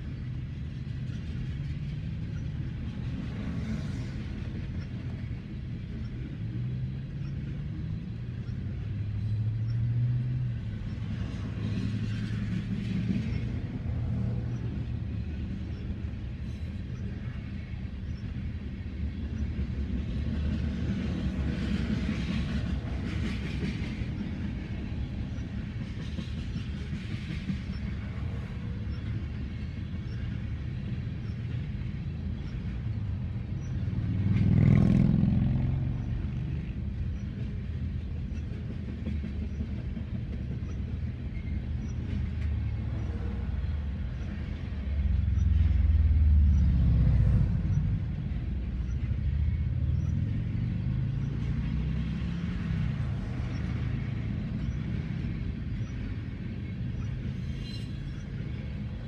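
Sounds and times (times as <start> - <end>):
freight train rolling past: 0.0 - 59.0
train wheel clatter: 0.0 - 59.0.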